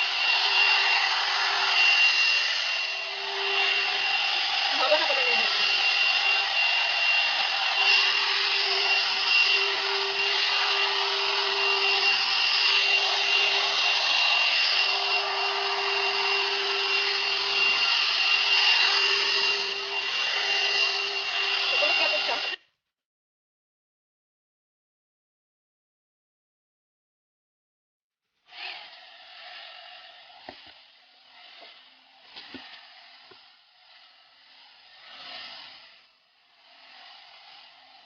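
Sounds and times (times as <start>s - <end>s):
hair dryer brush running: 0.0s - 22.6s, 28.5s - 36.0s, 36.6s - 38.0s.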